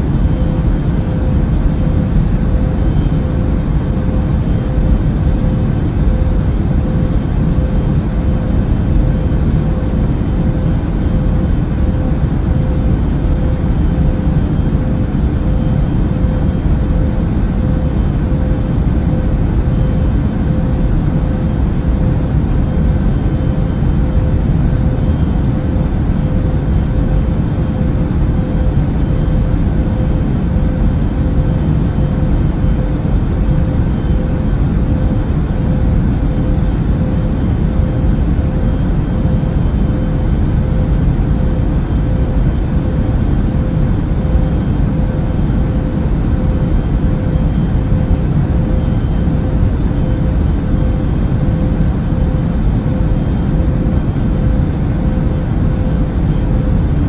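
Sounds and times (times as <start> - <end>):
airplane cabin engine rumble: 0.0 - 57.0
steady hum: 0.0 - 57.0.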